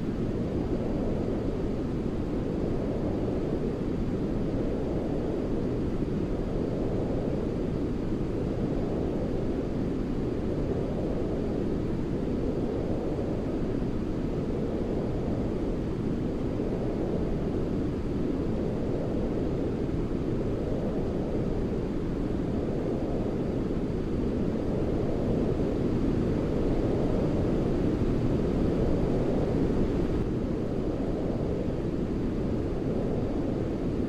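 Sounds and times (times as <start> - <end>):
brown noise rumbling hiss: 0.0 - 34.0.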